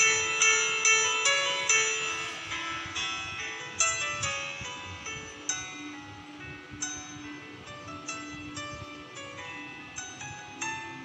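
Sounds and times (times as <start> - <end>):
chiming instrumental music: 0.0 - 11.0.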